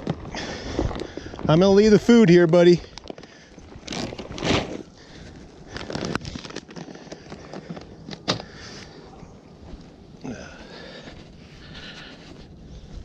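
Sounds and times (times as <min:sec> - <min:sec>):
crackling rustles: 0:00.0 - 0:13.0.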